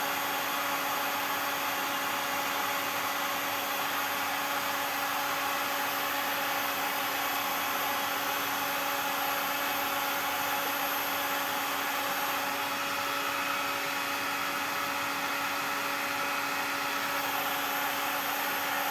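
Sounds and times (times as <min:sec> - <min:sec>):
hot-air gun motor hum: 0:00.0 - 0:18.9.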